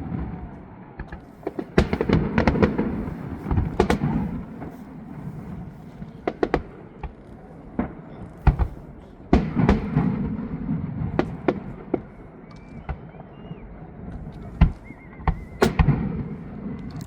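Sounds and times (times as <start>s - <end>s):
distant fireworks bangs: 0.0s - 17.0s.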